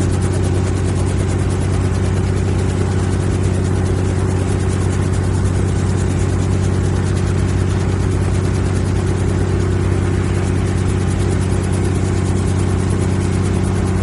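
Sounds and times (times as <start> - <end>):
helicopter engine drone: 0.0 - 14.0
helicopter rotor beat: 0.0 - 14.0.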